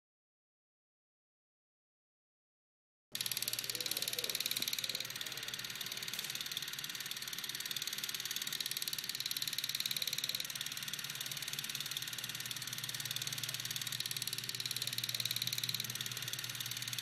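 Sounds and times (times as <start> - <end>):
fast mechanical film sprocket clatter: 3.2 - 17.0.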